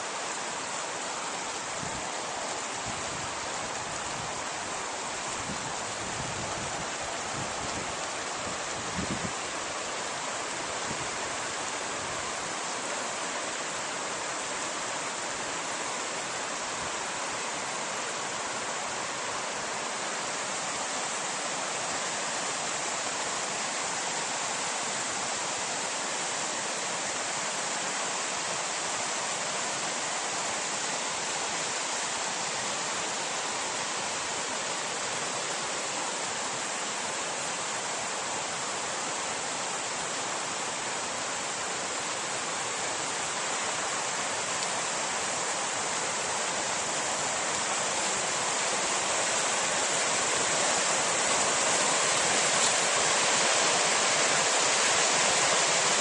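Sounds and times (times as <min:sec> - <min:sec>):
river rushing over rapids: 0:00.0 - 0:56.0.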